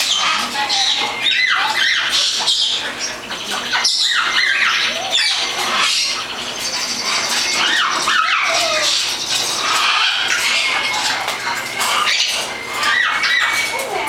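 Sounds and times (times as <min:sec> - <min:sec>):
parrots squawking and chattering: 0:00.0 - 0:14.0.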